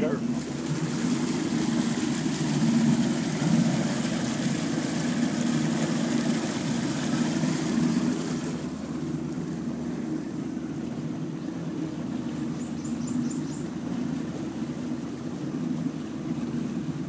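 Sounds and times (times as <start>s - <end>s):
boat motor running: 0.0s - 17.0s
rush of wind and water: 0.0s - 17.0s.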